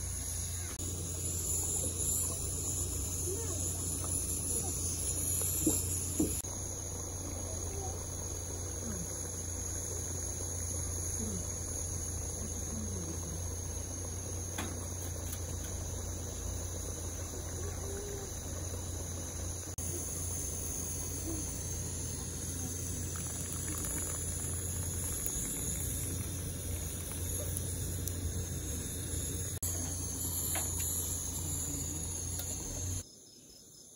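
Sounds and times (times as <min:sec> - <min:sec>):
crickets chirring: 0:00.0 - 0:33.9.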